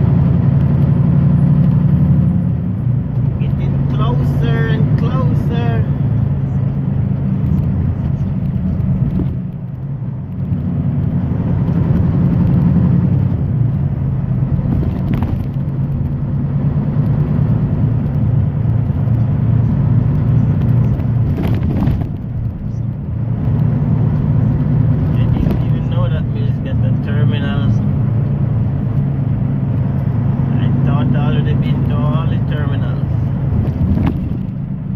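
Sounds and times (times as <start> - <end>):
truck engine and road noise: 0.0 - 34.9.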